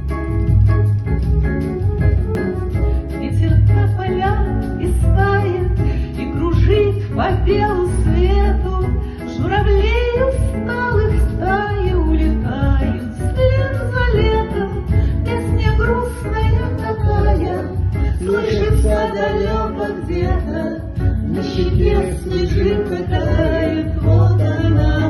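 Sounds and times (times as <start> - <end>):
pop song backing track: 0.0 - 25.0
woman singing: 3.0 - 25.0.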